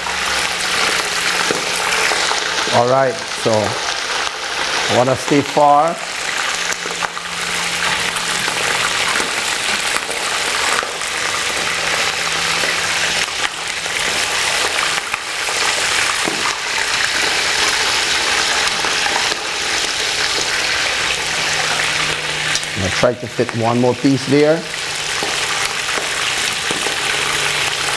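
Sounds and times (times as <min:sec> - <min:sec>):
chicken sizzling in hot oil: 0:00.0 - 0:27.9.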